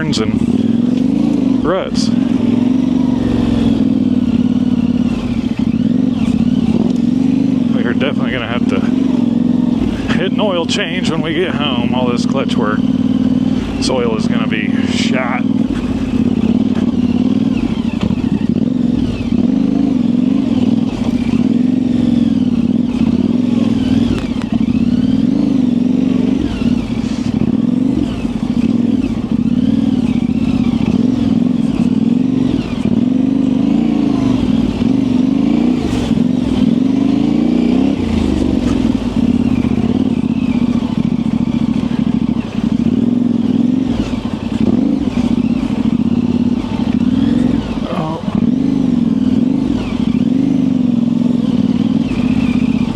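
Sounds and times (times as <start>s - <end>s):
motorcycle engine at low revs: 0.0s - 52.9s.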